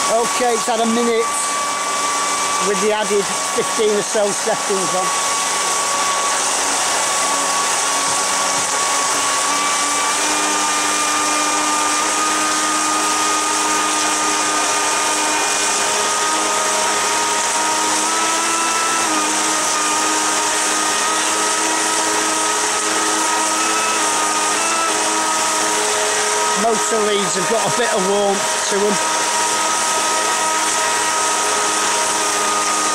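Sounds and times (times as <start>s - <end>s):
electric motor whine: 0.0s - 32.9s
water jet churning: 0.0s - 32.9s.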